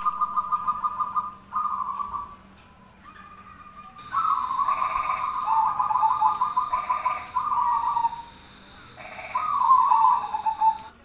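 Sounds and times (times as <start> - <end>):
doves cooing: 0.0 - 11.0
faint bird call: 0.0 - 11.0
trilling coo phrase: 0.0 - 11.0.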